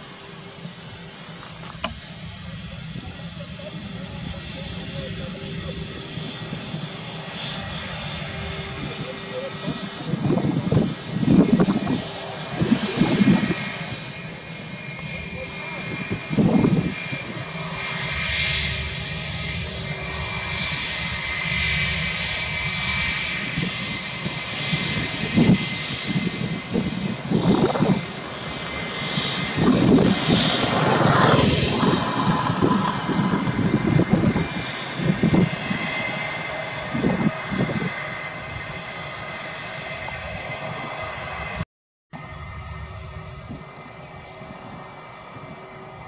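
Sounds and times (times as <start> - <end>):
jet engines running: 0.0 - 41.6, 42.2 - 46.0.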